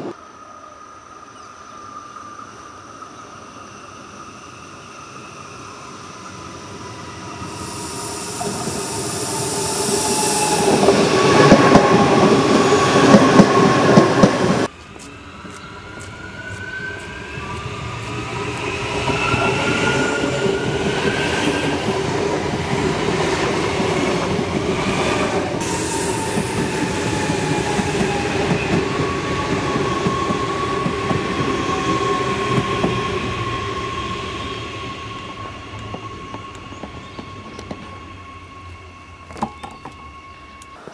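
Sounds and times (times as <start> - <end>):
electric train passing on rails: 0.0 - 40.9
train motor whine: 3.6 - 40.9.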